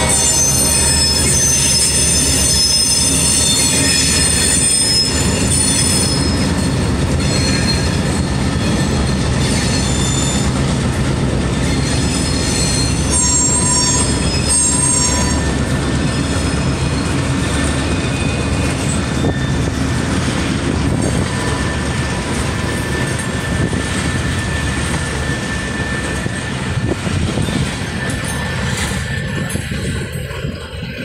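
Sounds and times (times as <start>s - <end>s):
train wheels rumbling on rail: 0.0s - 31.0s
train wheels squealing: 0.0s - 31.0s.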